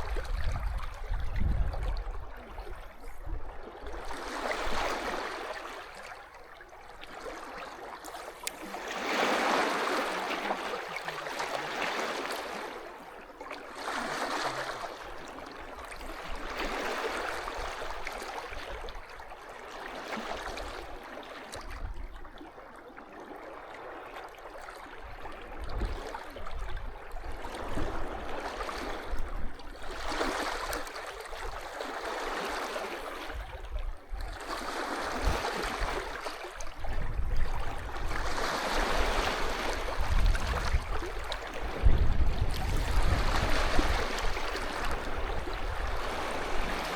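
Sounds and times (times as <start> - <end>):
sea waves washing on beach: 0.0 - 3.2, 3.8 - 19.1, 27.2 - 46.9.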